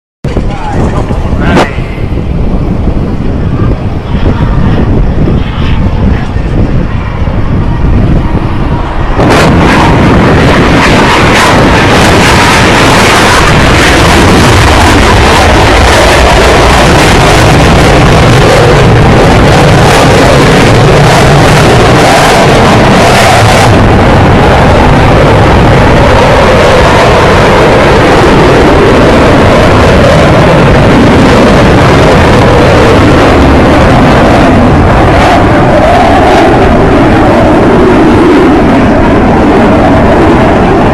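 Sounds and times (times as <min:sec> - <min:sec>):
jet engine roaring: 0:00.2 - 0:40.9.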